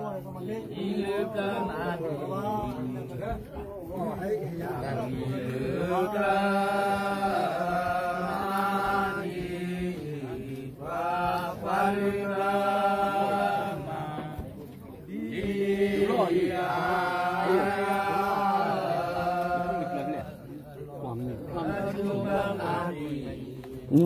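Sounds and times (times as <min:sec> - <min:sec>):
men chanting in held notes: 0:00.0 - 0:24.0.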